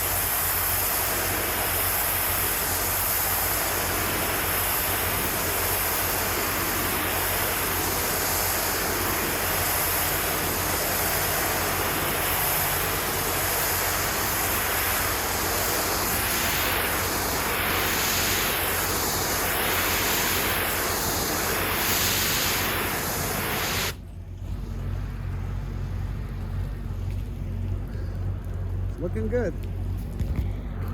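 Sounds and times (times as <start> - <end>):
pressure washer spraying water: 0.0 - 30.2
engine running: 0.0 - 30.9.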